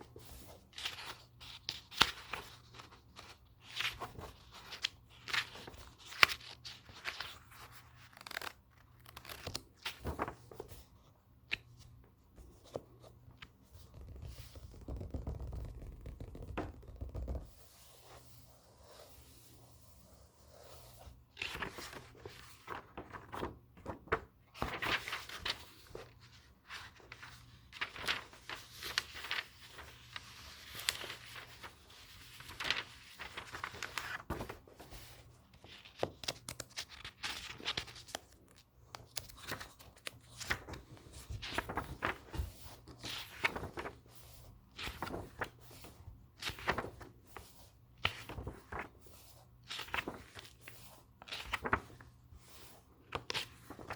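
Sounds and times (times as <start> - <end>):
paper pages rustling: 0.0 - 53.9.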